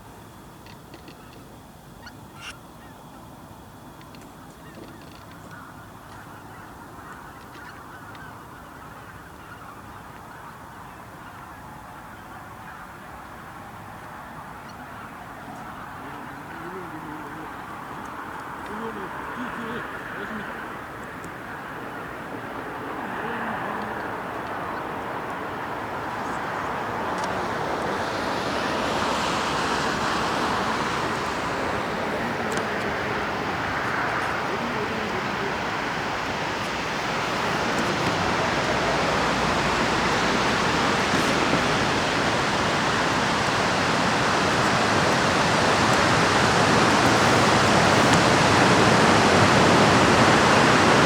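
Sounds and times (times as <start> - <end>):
flock of ducks calling: 2.0 - 2.9, 4.4 - 51.0.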